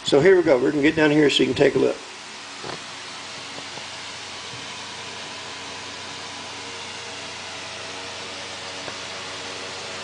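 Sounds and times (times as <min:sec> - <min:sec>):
electric fan running: 0:00.0 - 0:10.0.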